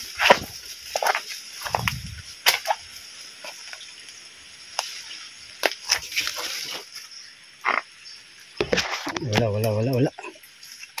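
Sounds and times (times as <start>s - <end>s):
leaves and twigs crackling and snapping: 0.0s - 7.9s, 8.6s - 11.0s
steady high hiss: 0.0s - 11.0s.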